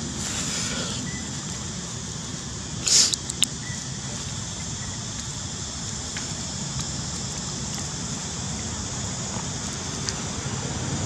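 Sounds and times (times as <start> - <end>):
high hiss: 0.0 - 11.0.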